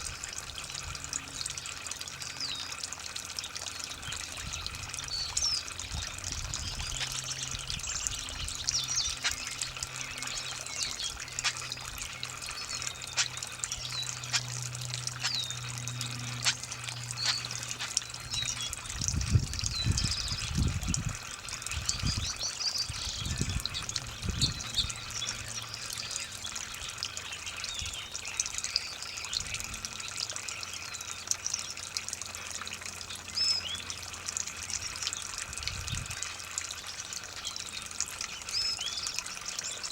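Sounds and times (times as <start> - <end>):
songbirds chirping: 0.0 - 20.8, 21.5 - 39.9
water running from hose: 0.0 - 39.9.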